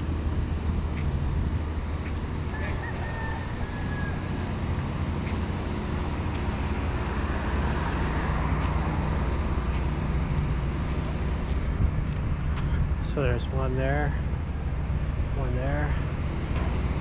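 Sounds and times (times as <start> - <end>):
low traffic rumble: 0.0 - 17.0
vehicle passing by: 0.0 - 17.0.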